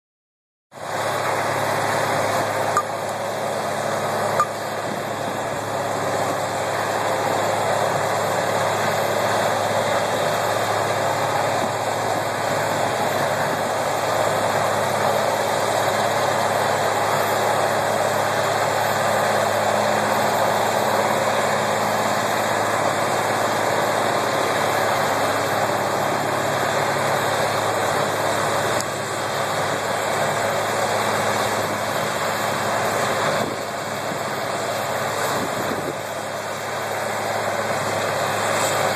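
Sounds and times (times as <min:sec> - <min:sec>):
excavator engine: 0:00.7 - 0:38.9
wood chipper diesel engine chipping: 0:00.8 - 0:38.9.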